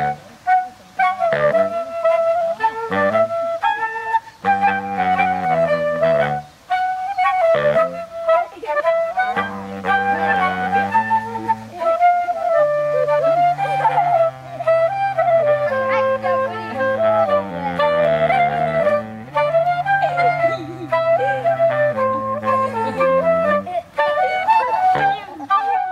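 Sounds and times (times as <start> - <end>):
baritone saxophone bass line: 0.0 - 25.5
soprano saxophone melody: 0.0 - 25.9
wooden flute: 0.0 - 25.9.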